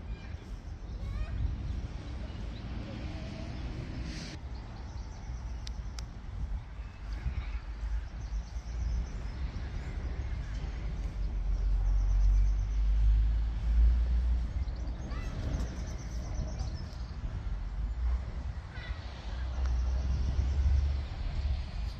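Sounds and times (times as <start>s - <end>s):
wind rumbling on microphone: 0.0s - 21.9s.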